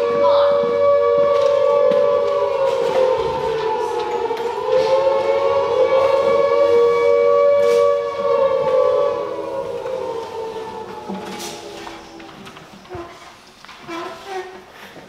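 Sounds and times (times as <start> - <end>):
air-raid siren wailing: 0.0 - 13.2.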